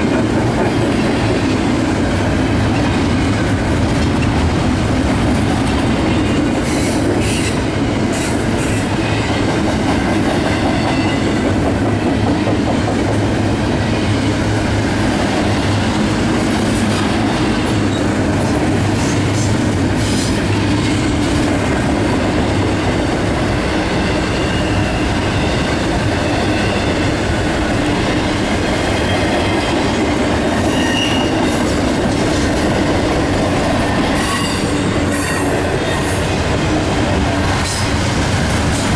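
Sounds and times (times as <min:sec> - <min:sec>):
train cars rumbling past: 0:00.0 - 0:38.9.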